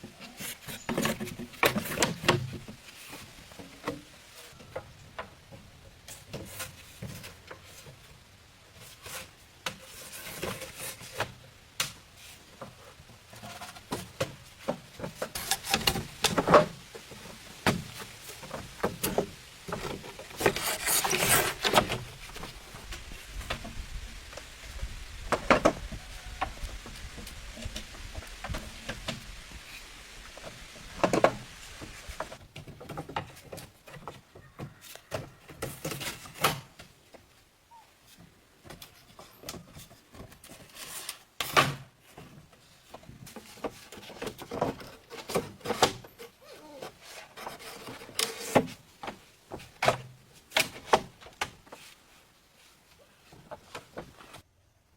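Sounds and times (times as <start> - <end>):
rustling scrape: 0.1 - 4.6, 6.1 - 8.1, 8.7 - 11.4, 12.1 - 32.4, 38.9 - 41.4, 42.0 - 54.4.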